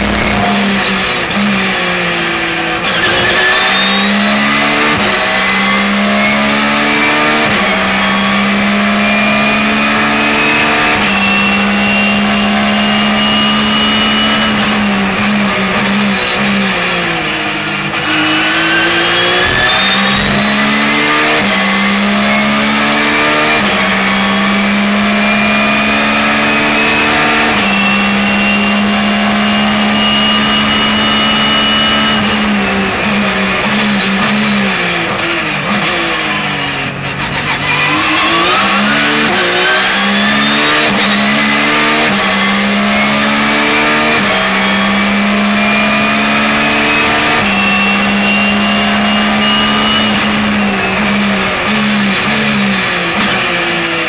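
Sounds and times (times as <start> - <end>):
race car engine revving and shifting: 0.0 - 54.0.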